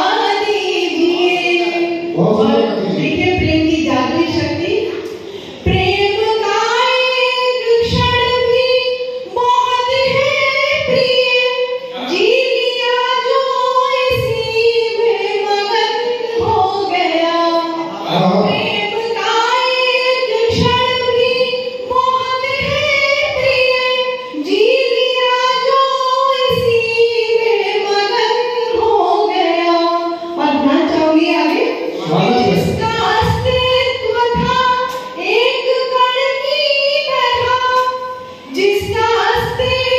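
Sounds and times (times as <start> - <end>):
woman singing into microphone: 0.0 - 39.9.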